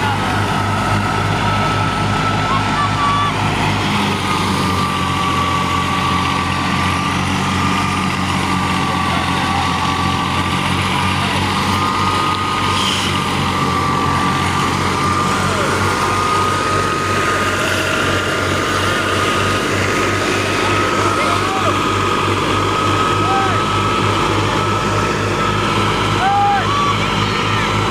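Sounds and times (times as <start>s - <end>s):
diesel tractor engine running: 0.0s - 27.9s
thresher high whine: 0.0s - 27.9s.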